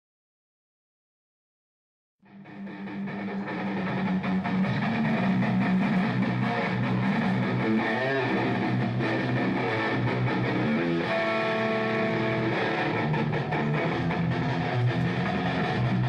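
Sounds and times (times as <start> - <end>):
electric guitar fast riffing: 2.3 - 16.0.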